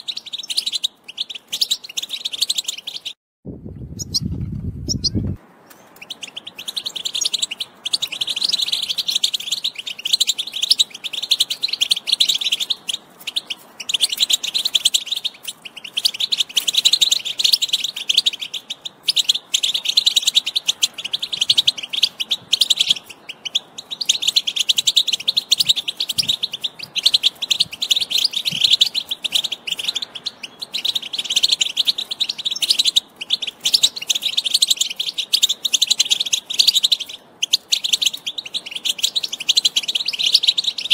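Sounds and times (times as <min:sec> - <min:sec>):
goldfinch twittering: 0:00.0 - 0:03.2, 0:04.9 - 0:05.2, 0:06.0 - 0:40.9.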